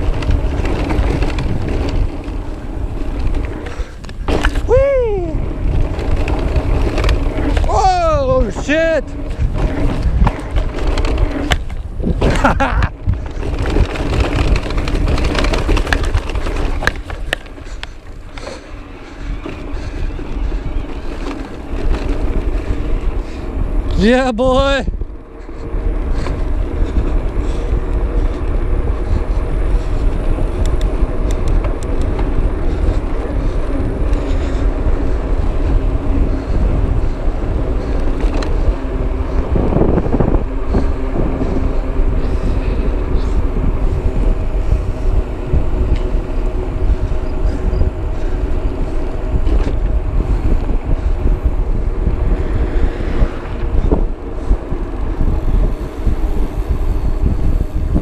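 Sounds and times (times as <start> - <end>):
bike clicks and knocks: 0.0 - 24.0, 25.0 - 58.0
wind buffeting microphone: 0.0 - 58.0.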